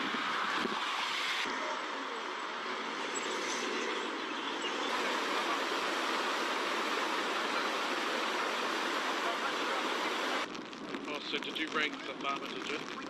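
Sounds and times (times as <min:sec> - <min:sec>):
flowing floodwater: 0:00.0 - 0:13.0
wind: 0:00.0 - 0:13.0.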